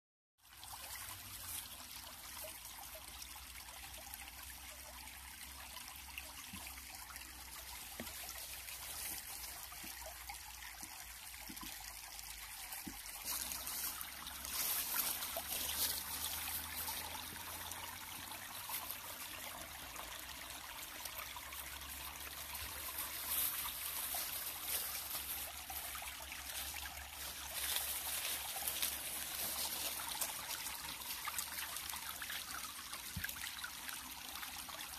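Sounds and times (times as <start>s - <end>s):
stream babbling over stones: 0.4s - 34.9s.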